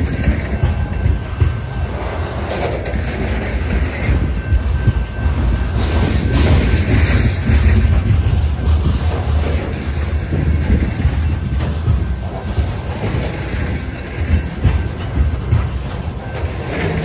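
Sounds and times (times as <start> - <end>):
train wheels rumbling on rail: 0.0 - 17.0
wheels clicking and clacking: 0.0 - 17.0.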